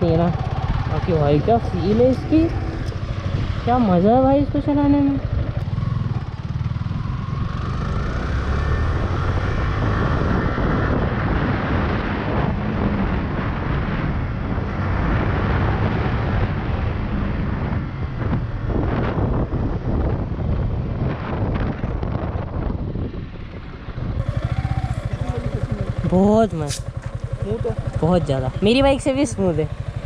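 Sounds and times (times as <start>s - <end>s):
motorcycle engine accelerating: 0.0s - 30.0s
wind rushing over microphone: 0.0s - 30.0s.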